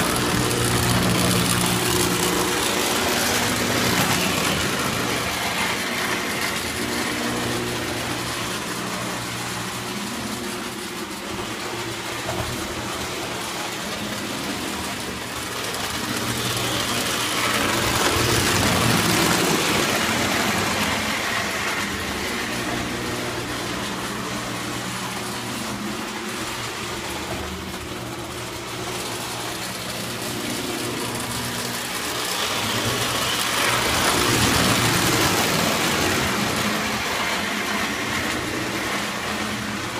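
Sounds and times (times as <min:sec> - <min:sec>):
model train motor hum: 0:00.0 - 0:39.9
wheel rumble on rails: 0:00.0 - 0:39.9.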